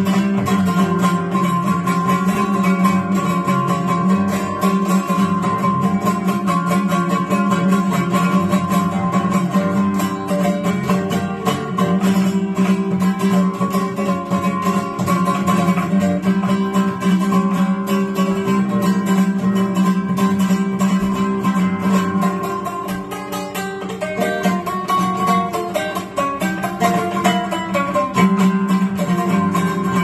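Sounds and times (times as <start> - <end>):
guitar playing plucked notes: 0.0 - 30.0.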